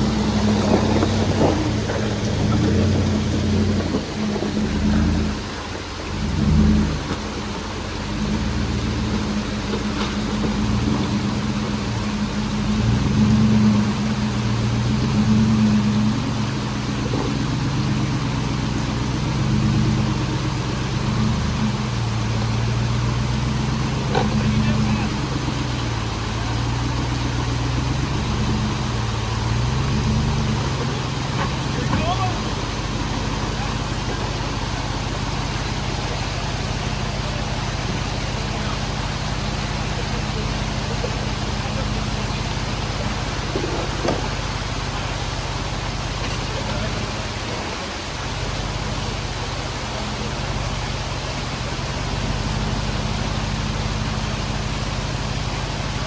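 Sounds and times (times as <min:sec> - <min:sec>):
car engine revving at low revs: 0:00.0 - 0:56.0.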